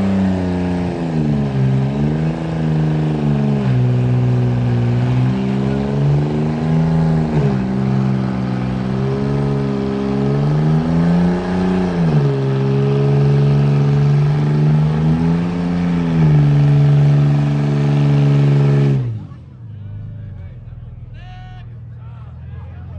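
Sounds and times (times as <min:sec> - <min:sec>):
vehicle engine revving: 0:00.0 - 0:21.1.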